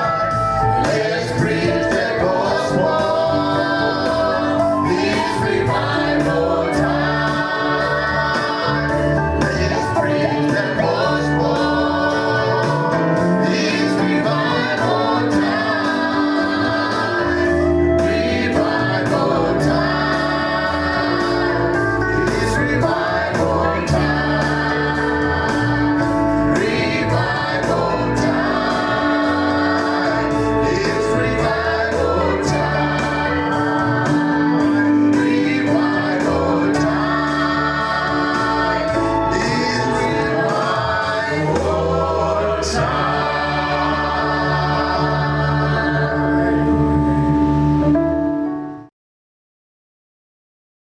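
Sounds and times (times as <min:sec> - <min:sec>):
choir singing gospel music: 0:00.0 - 0:48.1.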